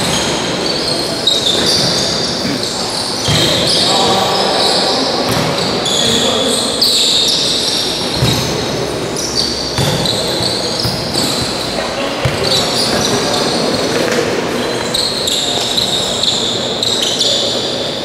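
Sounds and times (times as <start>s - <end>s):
shoes squeaking on court floor: 0.0s - 18.0s.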